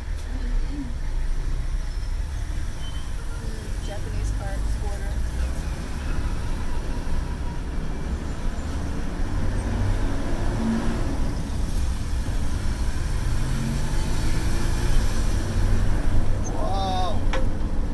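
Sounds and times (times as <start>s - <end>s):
surrounding traffic: 0.0s - 17.9s
vehicle engine and road rumble: 0.0s - 17.9s.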